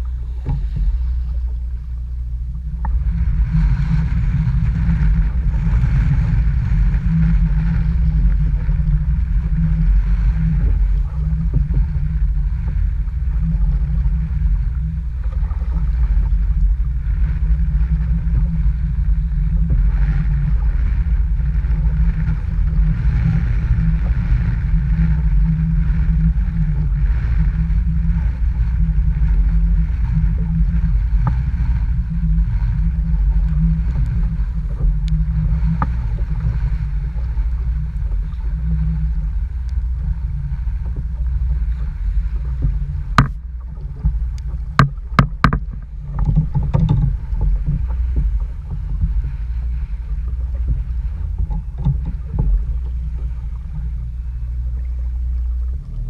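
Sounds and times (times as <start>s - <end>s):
strong wind buffeting microphone: 0.0s - 56.0s.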